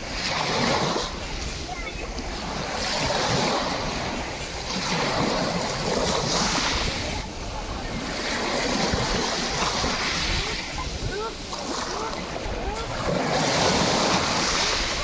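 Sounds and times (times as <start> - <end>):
waves washing over pebbles: 0.0 - 15.0.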